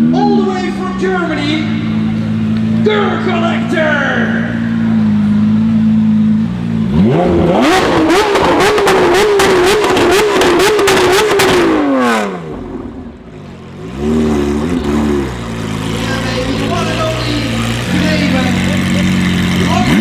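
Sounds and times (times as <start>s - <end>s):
sports car engine revving: 0.0s - 20.0s
exhaust crackle: 0.5s - 20.0s.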